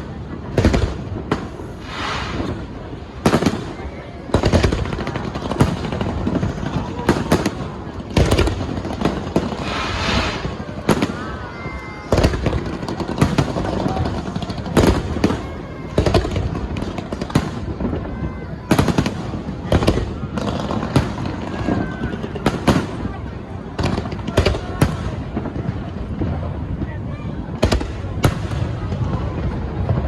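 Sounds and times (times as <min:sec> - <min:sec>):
crowd chatter: 0:00.0 - 0:30.0
fireworks bursting: 0:00.0 - 0:30.0.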